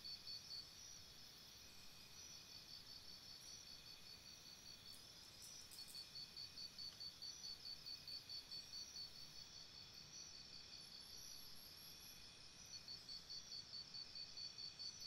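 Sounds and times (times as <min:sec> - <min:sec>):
fast pulsing insect chirp: 0:00.1 - 0:13.6.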